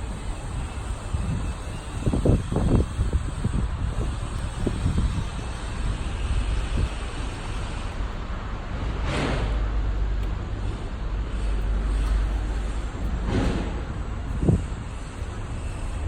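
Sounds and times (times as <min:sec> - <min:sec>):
engine running low rumble: 0:00.0 - 0:16.0
rushing noise: 0:00.0 - 0:16.0
wind buffeting microphone: 0:00.0 - 0:16.0.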